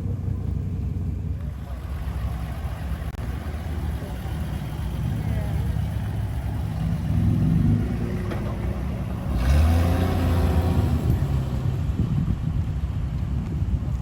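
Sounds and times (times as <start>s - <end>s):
car engine rumbling and revving: 0.0s - 14.0s.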